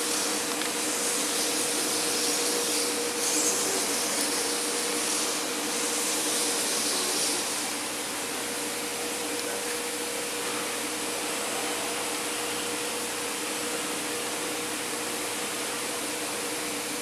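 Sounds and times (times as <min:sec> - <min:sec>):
cnc router machine hiss: 0:00.0 - 0:17.0.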